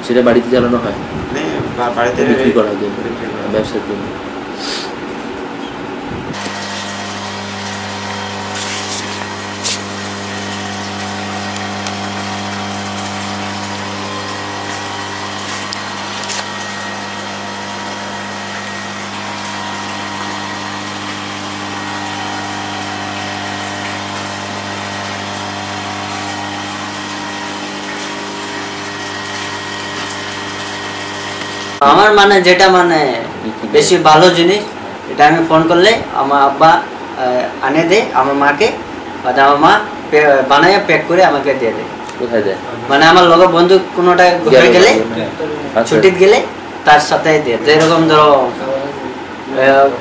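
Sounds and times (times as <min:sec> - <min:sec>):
industrial machinery humming: 0:00.0 - 0:50.0.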